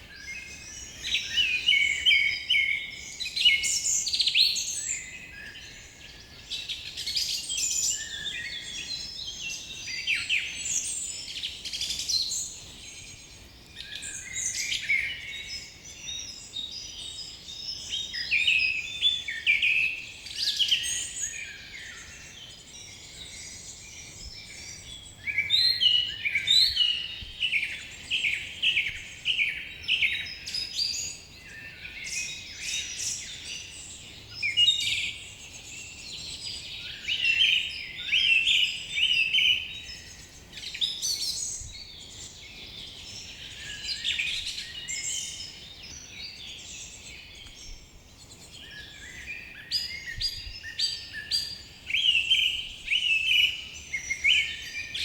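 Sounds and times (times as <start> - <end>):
birds singing and calling: 0.0 - 55.0.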